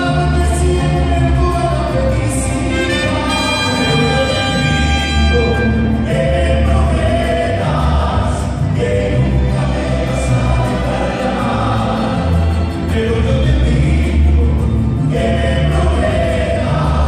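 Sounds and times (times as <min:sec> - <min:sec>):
mariachi band playing: 0:00.0 - 0:17.0
voices singing together: 0:00.0 - 0:17.0.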